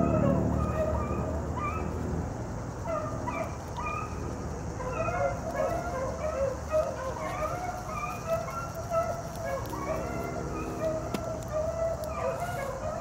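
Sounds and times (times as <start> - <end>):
hounds baying: 0.0 - 2.0, 2.7 - 13.0.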